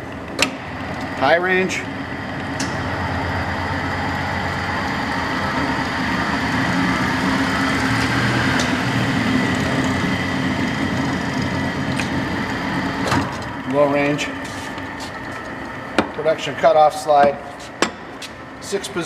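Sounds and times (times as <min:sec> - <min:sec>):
lathe spindle hum with whine: 0:00.0 - 0:19.0.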